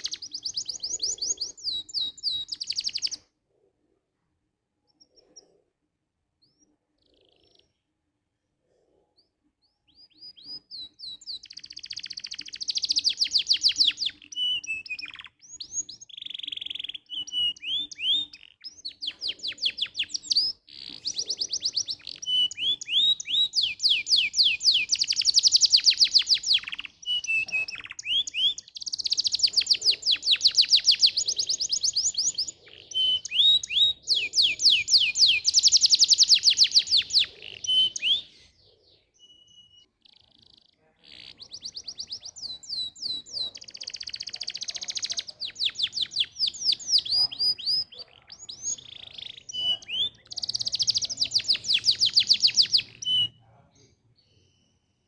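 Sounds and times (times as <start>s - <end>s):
canary singing trills: 0.0s - 3.3s, 4.8s - 8.1s, 9.0s - 55.0s.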